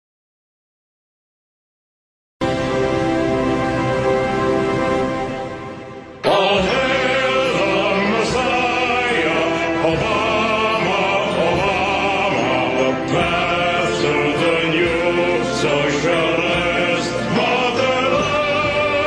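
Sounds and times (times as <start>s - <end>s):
choir singing: 3.3s - 19.0s.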